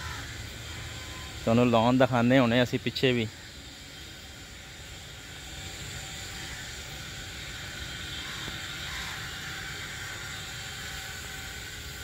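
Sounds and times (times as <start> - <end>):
hiss: 0.0 - 12.0.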